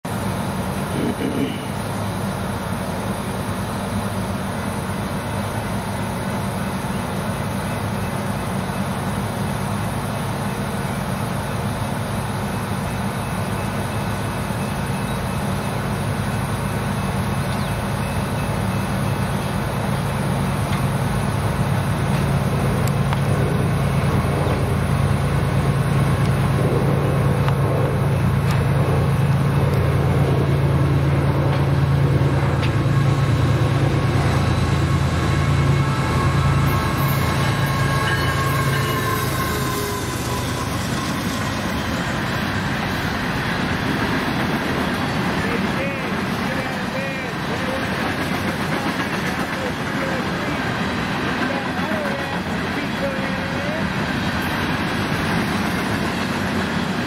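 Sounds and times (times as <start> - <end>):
diesel locomotive engine hum: 0.0 - 57.0.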